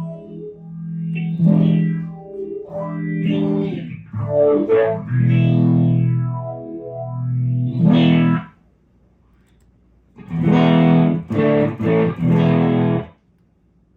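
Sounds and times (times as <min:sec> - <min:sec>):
electric guitar chords with phaser: 0:00.0 - 0:08.6, 0:10.2 - 0:13.1.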